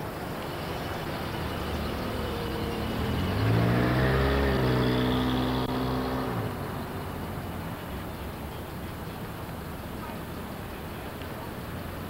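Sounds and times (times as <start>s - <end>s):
vehicle engine revving: 0.0s - 10.6s
street noise: 0.0s - 12.0s.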